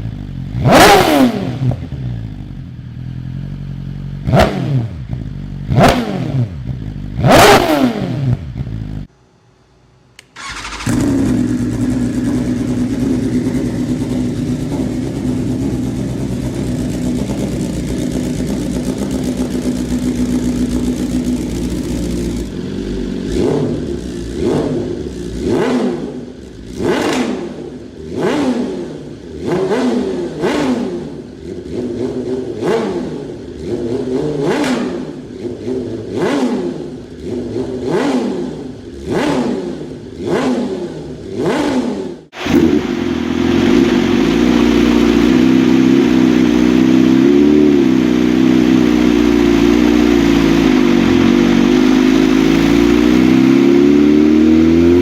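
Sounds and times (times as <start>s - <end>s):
motorcycle engine revving: 0.0s - 9.1s, 10.2s - 55.0s.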